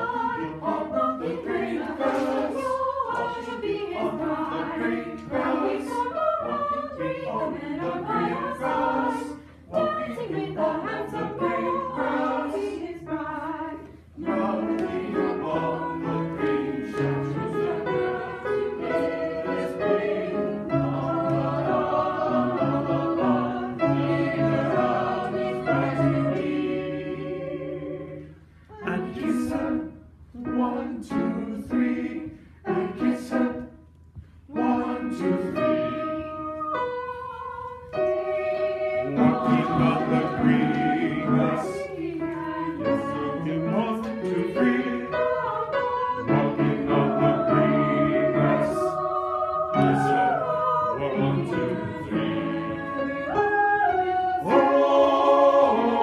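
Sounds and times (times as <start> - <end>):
choir singing: 0.0 - 33.8, 34.5 - 56.0.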